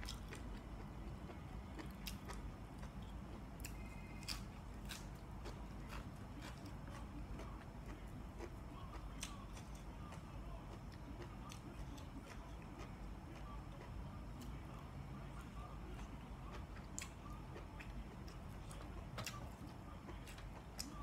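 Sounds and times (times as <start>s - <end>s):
person chewing with mouth open: 0.0s - 21.0s.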